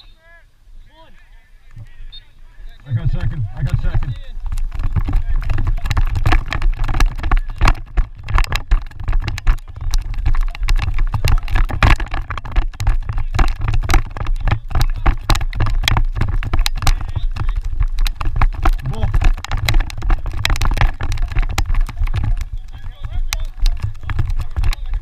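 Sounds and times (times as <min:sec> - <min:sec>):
wind buffeting microphone: 0:01.7 - 0:25.0
sharp knocks and crackles: 0:02.7 - 0:25.0.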